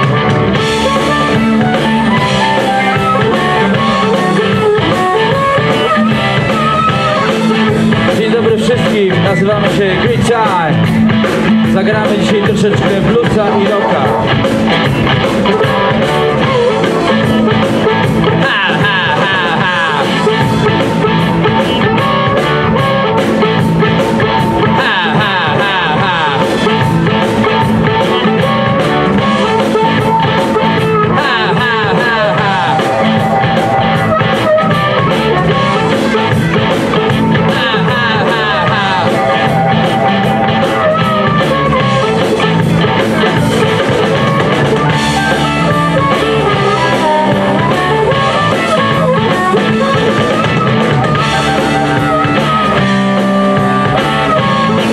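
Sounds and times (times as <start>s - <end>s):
drum kit keeping a steady beat: 0.0s - 54.9s
electric guitars: 0.0s - 54.9s.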